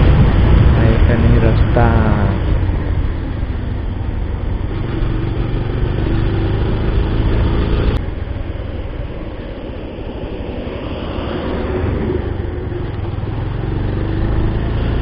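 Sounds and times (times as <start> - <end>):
motorcycle engine running: 0.0 - 10.8, 11.8 - 15.0
road rumble: 0.0 - 15.0
wind noise: 0.0 - 15.0.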